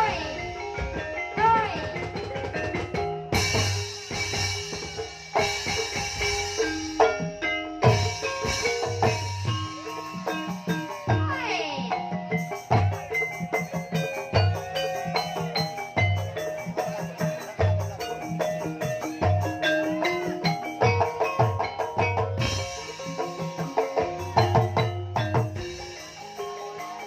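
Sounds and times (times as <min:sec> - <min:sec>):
mallet-struck keyed instruments: 0:00.0 - 0:27.0.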